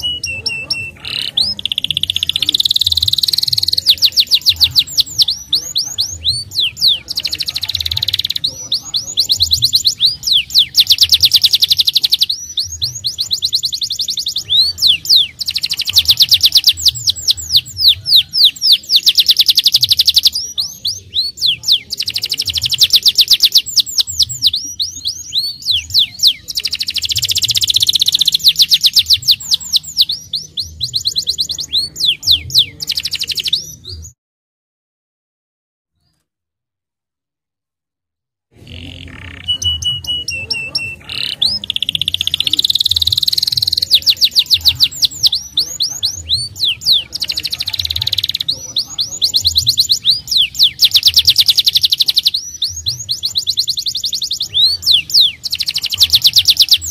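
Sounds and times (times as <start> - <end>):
canary singing trills: 0.0 - 34.2, 38.6 - 56.9.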